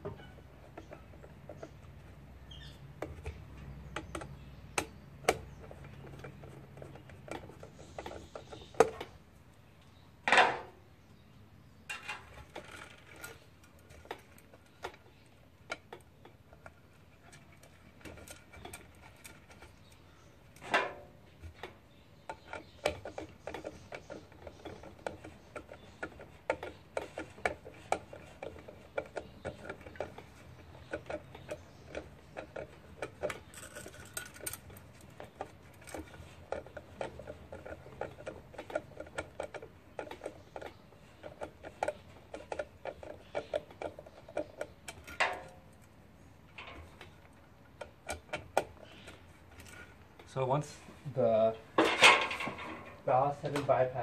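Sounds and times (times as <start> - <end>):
small metal clicks and taps: 0.1 - 9.2, 11.9 - 50.3.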